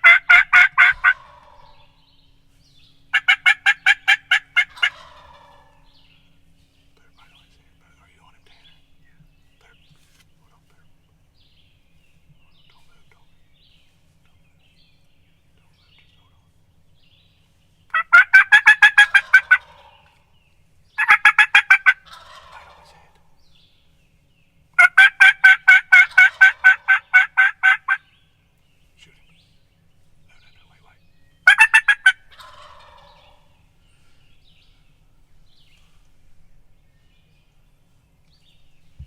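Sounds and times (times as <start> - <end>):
turkey calling: 0.0 - 2.4, 3.0 - 11.2, 15.4 - 24.0, 24.7 - 38.0.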